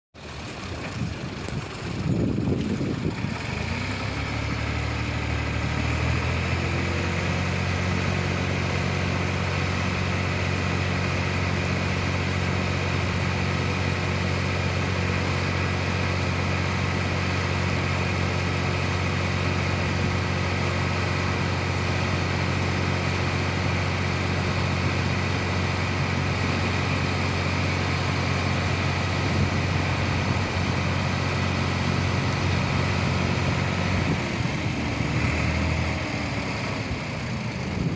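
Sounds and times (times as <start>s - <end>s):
diesel tractor engine revving: 0.2s - 37.9s.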